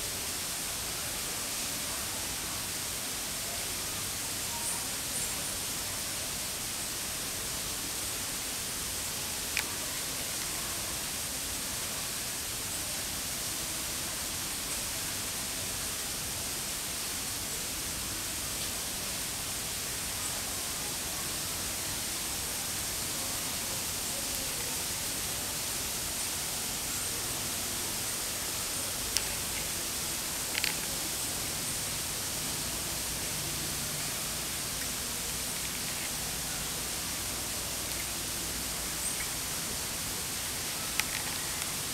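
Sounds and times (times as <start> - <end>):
background hiss: 0.0 - 41.9.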